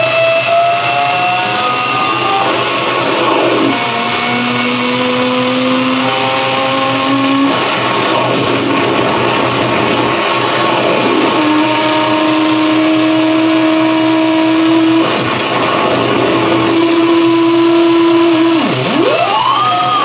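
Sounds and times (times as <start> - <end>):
harsh noise music: 0.0 - 20.0
held drone tone: 0.0 - 20.0.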